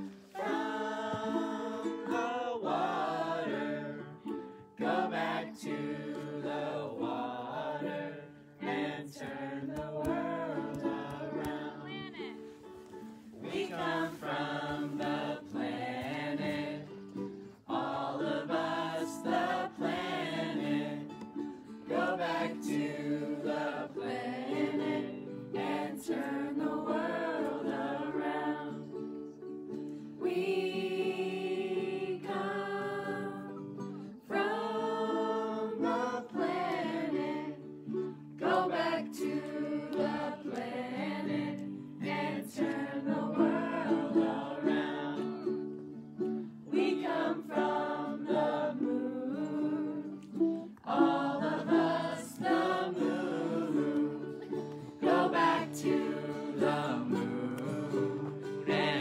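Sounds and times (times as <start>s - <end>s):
strummed string instrument: 0.0s - 59.0s
voices singing together: 0.0s - 59.0s.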